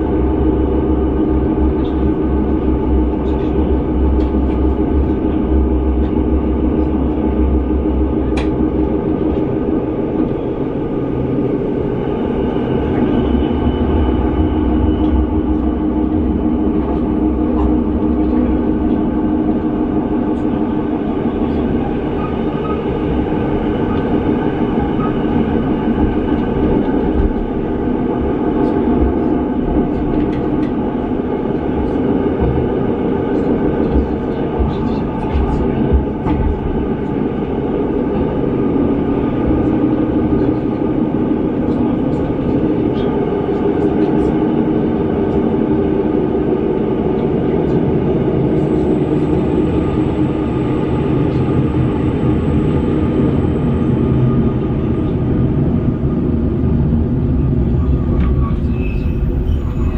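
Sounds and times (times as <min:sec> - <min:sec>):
train motor hum: 0:00.0 - 0:59.9
train wheels rumbling on rails: 0:00.0 - 0:59.9.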